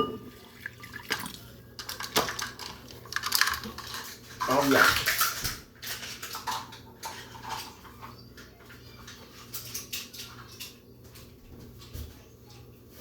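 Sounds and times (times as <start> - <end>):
kitchenware clinking: 0.0 - 11.3.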